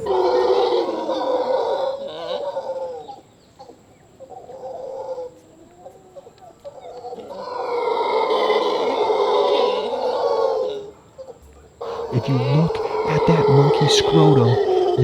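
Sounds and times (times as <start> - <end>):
howler monkeys howling: 0.0 - 15.0.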